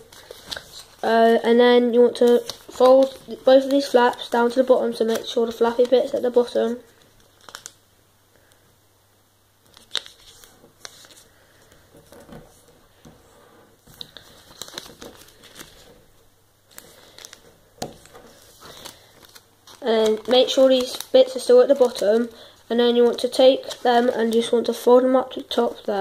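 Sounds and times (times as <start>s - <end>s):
paper rustling and crinkling: 0.0s - 1.4s, 2.0s - 7.8s, 9.6s - 16.1s, 16.7s - 26.0s.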